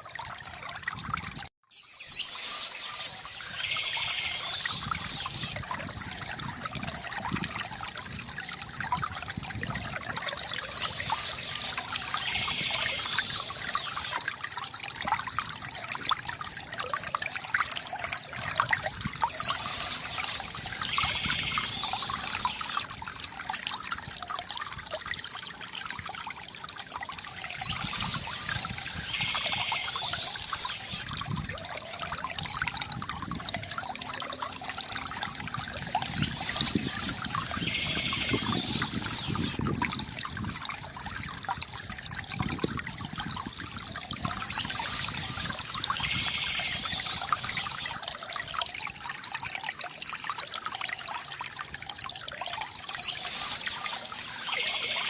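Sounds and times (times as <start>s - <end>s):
stream babbling over rocks: 2.1s - 55.0s.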